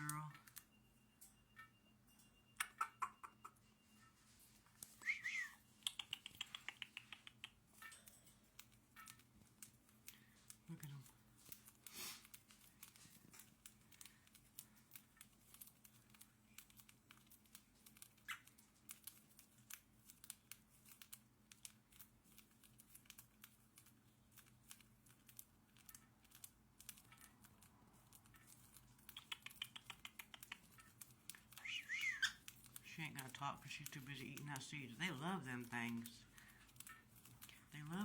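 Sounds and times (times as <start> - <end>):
faint low hum: 0.0 - 38.0
birds cracking seeds: 4.6 - 38.0.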